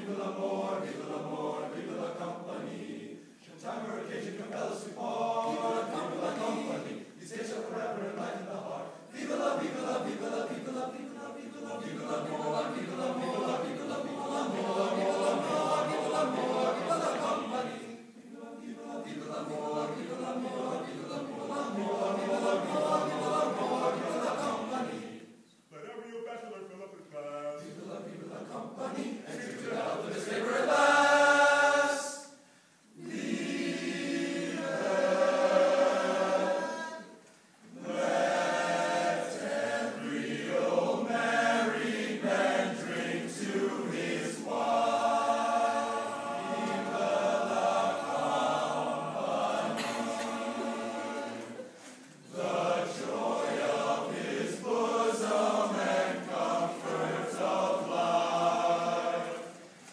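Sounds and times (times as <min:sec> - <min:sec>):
men's choir singing: 0:00.0 - 0:25.4, 0:26.4 - 0:32.4, 0:33.0 - 0:59.8.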